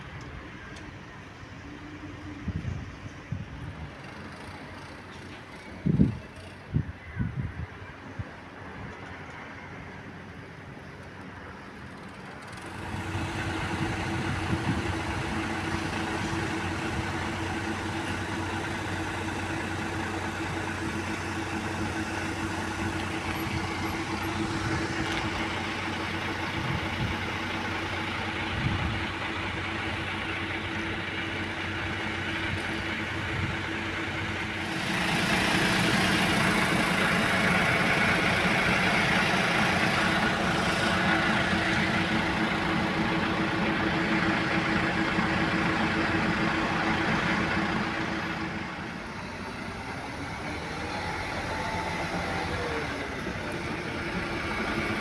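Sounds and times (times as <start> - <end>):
bus engines idling: 0.0 - 55.0.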